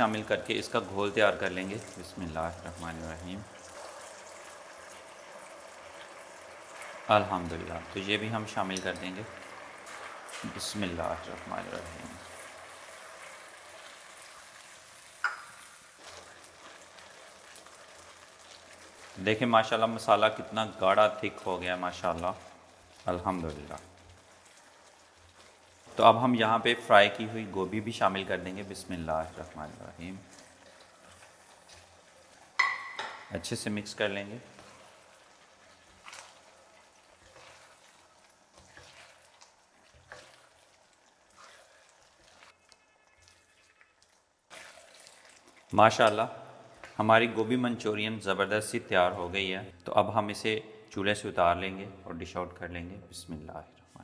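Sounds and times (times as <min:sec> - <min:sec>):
sauce sizzling in a wok: 0:00.0 - 0:43.4, 0:44.4 - 0:48.5
slurry poured and stirred: 0:00.0 - 0:49.4.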